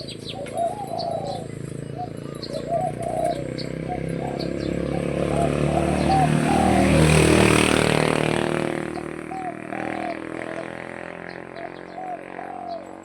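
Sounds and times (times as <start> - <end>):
motor vehicle passing: 0.0 - 13.0.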